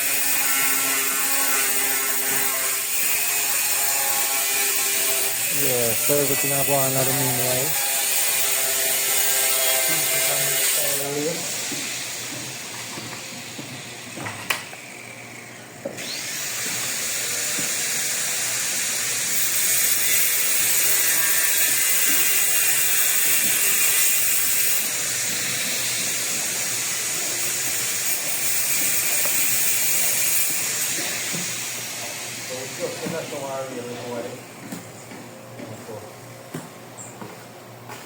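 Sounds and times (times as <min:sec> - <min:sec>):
power saw cutting tile: 0:00.0 - 0:34.3.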